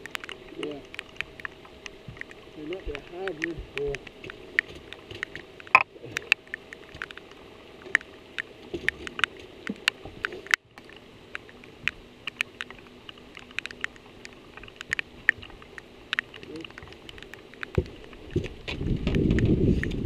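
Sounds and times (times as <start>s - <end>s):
faint steady hum: 0.0s - 20.0s
rain hiss: 0.0s - 20.0s
raindrops ticking on housing: 0.0s - 20.0s.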